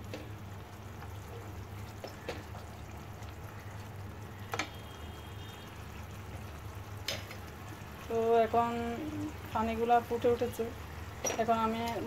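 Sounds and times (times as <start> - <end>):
liquid bubbling in a pot: 0.0 - 12.0.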